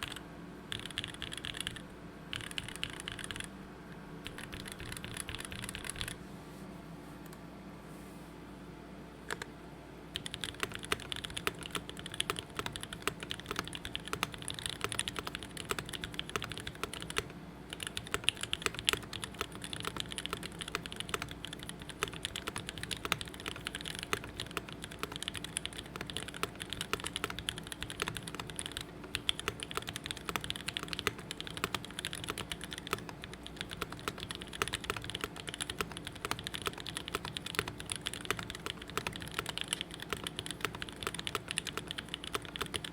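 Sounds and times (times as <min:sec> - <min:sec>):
mechanical keyboard typing: 0:00.0 - 0:03.5, 0:04.2 - 0:06.2, 0:10.2 - 0:42.9.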